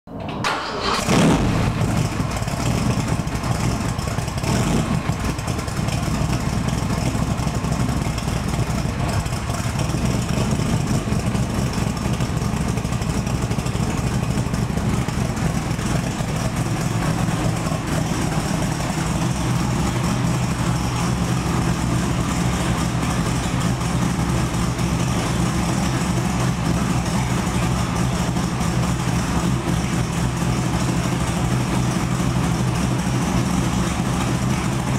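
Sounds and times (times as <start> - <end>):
car engine idling: 0.5 - 34.9.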